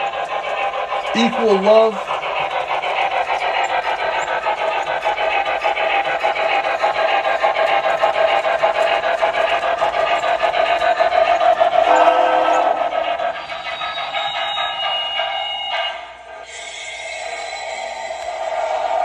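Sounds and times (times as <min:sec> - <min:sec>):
model train rattling on track: 0:00.0 - 0:19.0.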